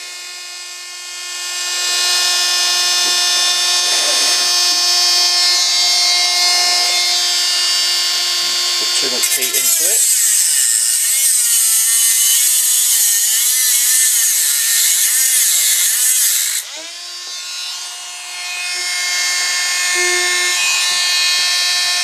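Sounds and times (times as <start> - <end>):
rotary tool grinding whine: 0.0 - 22.0.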